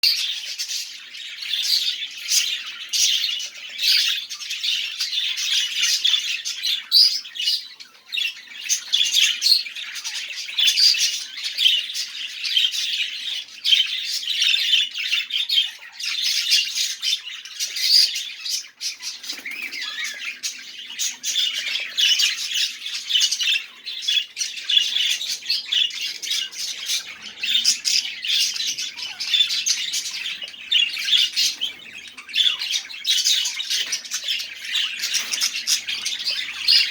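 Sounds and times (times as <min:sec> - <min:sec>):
budgerigars chirping and squawking: 0:00.0 - 0:36.9.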